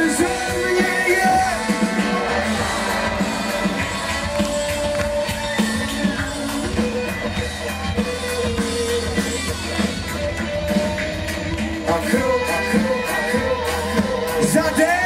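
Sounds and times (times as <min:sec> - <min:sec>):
drum kit steady beat: 0:00.0 - 0:15.0
live pop-rock band playing: 0:00.0 - 0:15.0.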